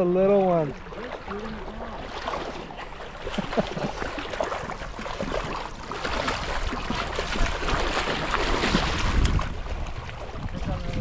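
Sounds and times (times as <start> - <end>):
river water running over rocks: 0.0 - 11.0
fish splashing at surface: 0.7 - 10.5.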